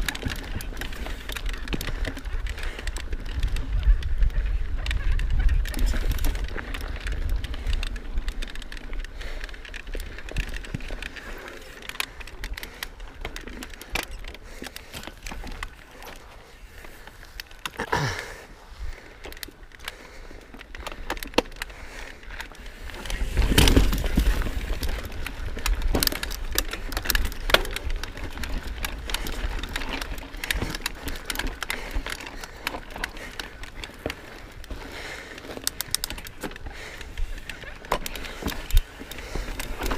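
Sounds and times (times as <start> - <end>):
bike chain and frame clicking: 0.0 - 39.9
bike tyres crunching on rock: 0.0 - 39.9.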